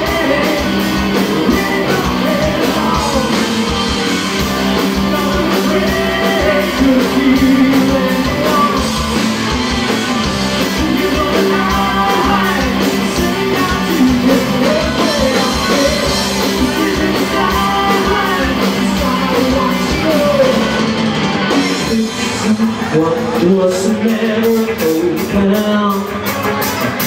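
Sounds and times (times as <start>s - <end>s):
person singing: 0.0s - 9.4s, 10.5s - 27.0s
electric guitar: 0.0s - 27.0s
rock band playing live: 0.0s - 27.0s.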